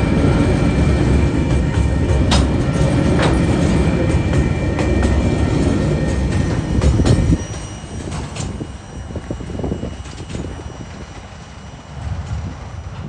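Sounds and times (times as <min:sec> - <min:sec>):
freight train wagons rumbling: 0:00.0 - 0:13.0
wheels clicking over rail joints: 0:01.5 - 0:13.0.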